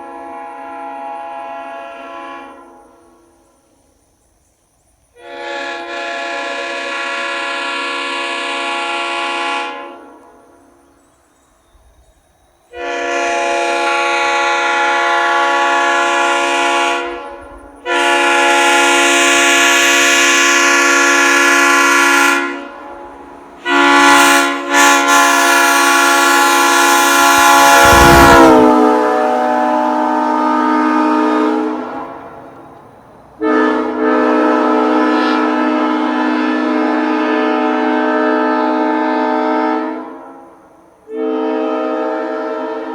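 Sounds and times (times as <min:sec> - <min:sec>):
train air horn blasts: 0:00.0 - 0:03.7, 0:05.2 - 0:10.9, 0:12.7 - 0:32.8, 0:33.4 - 0:42.9.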